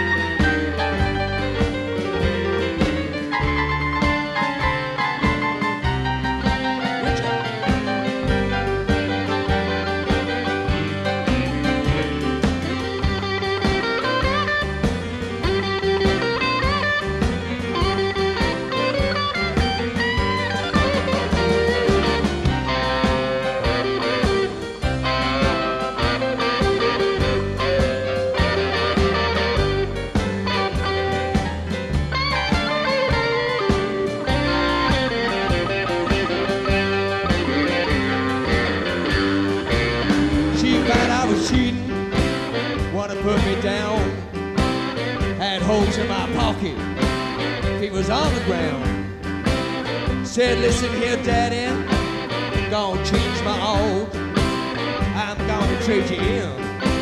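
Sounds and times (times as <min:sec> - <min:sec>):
instrumental rock music: 0:00.0 - 0:57.0
rhythm and blues song: 0:00.0 - 0:57.0.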